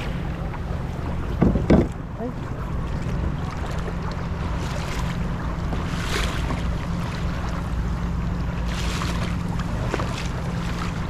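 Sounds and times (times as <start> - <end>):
low hum: 0.0 - 11.0
water splashing: 0.0 - 11.0.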